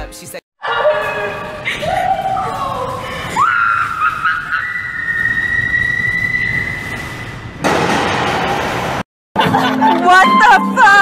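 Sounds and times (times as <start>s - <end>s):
cart wheels rolling on concrete: 0.8s - 10.1s.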